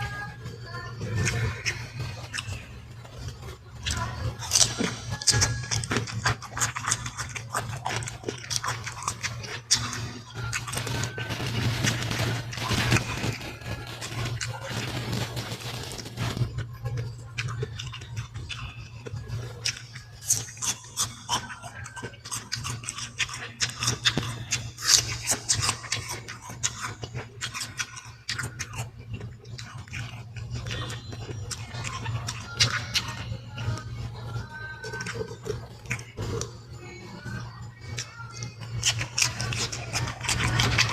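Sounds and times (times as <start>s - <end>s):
person chewing crunchy fruit: 0.0s - 40.9s.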